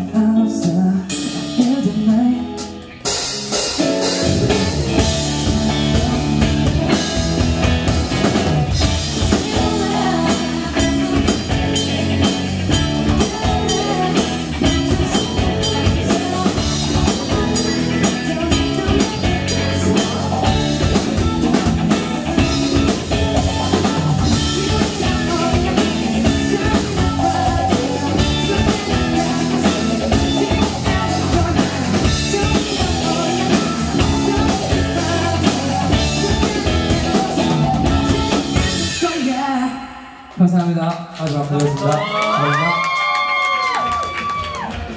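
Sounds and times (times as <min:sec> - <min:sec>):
guitar: 0:00.0 - 0:40.4, 0:41.3 - 0:44.9
rock band playing: 0:00.0 - 0:40.8, 0:41.7 - 0:44.9
drum kit beat: 0:00.1 - 0:40.8.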